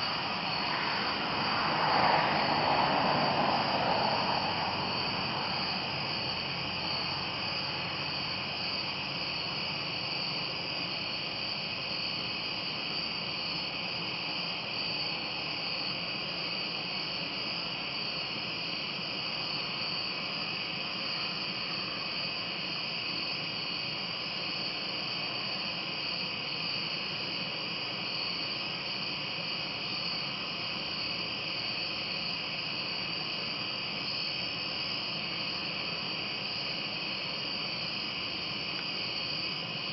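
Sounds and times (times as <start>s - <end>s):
background hiss: 0.0s - 39.9s
insects trilling: 0.0s - 39.9s.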